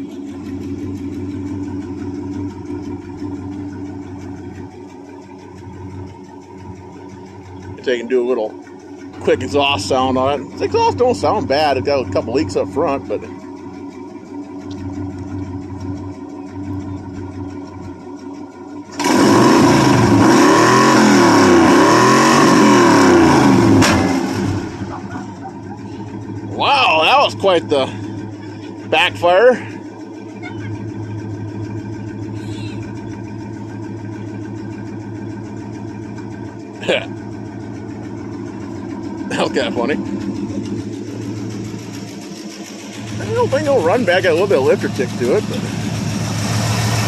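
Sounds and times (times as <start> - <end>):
pickup truck engine idling: 0.0 - 47.0.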